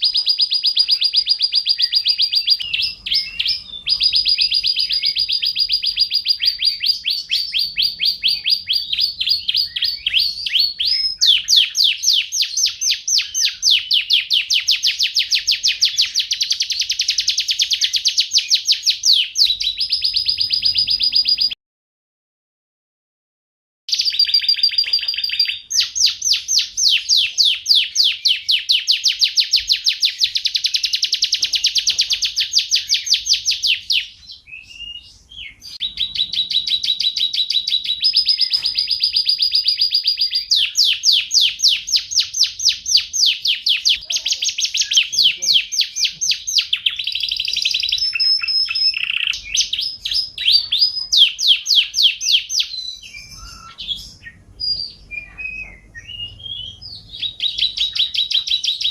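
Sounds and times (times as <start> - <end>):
canary singing trills: 0.0 - 21.6, 23.9 - 58.9.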